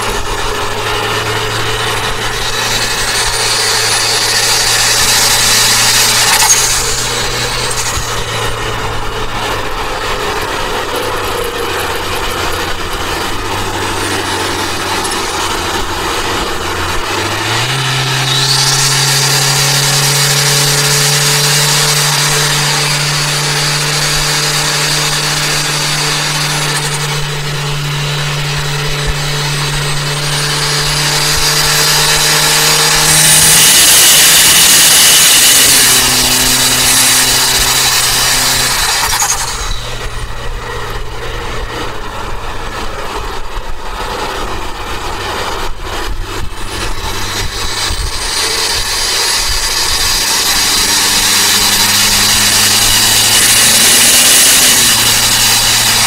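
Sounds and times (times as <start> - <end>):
car engine at high revs: 0.0 - 56.0
turbo whistle and rushing: 0.0 - 56.0.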